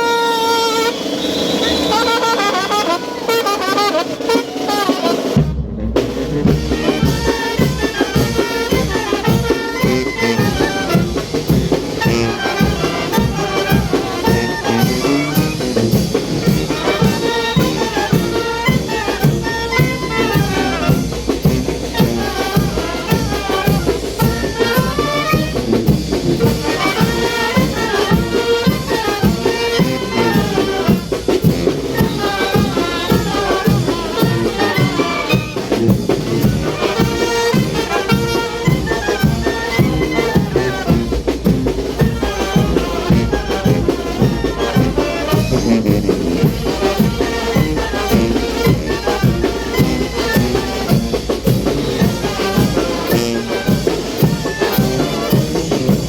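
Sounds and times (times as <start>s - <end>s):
brass band playing dance music: 0.0s - 56.0s
steady driving drum beat: 0.0s - 56.0s
trumpets playing melody: 0.0s - 56.0s.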